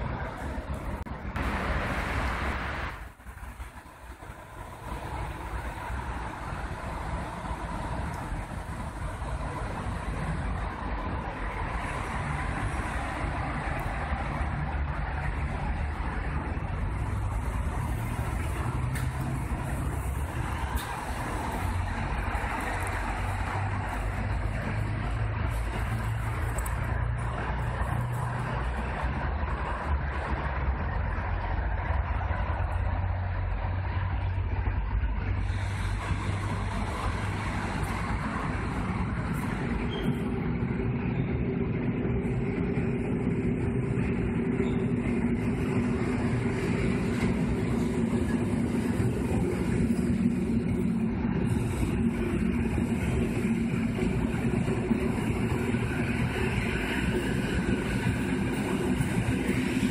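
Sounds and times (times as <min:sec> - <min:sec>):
train rumbling: 0:00.0 - 0:59.9.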